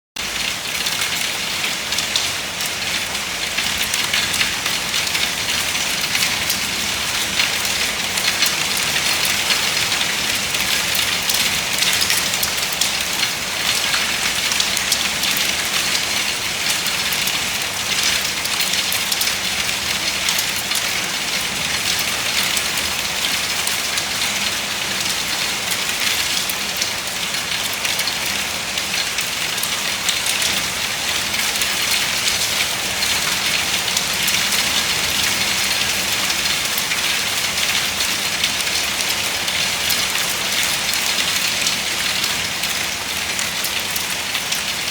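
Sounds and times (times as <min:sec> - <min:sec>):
rain pattering on surfaces: 0:00.2 - 0:44.9.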